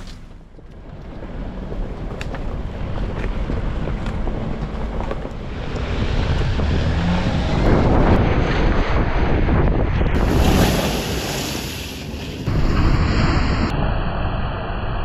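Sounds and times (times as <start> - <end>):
off-road vehicle driving: 0.0 - 13.7
wind on microphone: 0.8 - 15.0.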